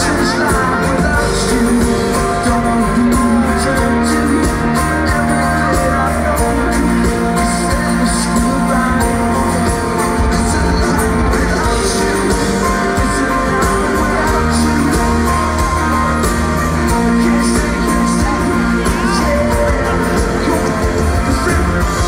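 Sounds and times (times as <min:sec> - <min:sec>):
live pop-rock band: 0:00.0 - 0:22.0
steady drumbeat: 0:00.0 - 0:22.0.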